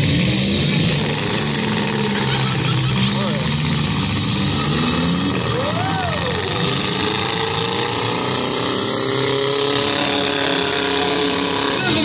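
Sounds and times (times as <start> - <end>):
crowd chatter: 0.0 - 8.3, 9.8 - 12.0
car engine revving: 0.0 - 12.0
car engines running: 0.0 - 12.0.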